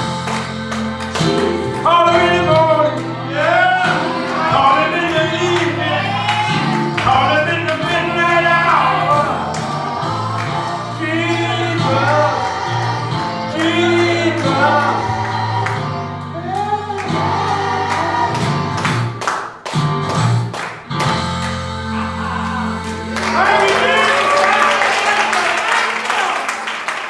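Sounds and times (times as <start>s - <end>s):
choir singing: 0.0s - 18.9s, 21.7s - 26.4s.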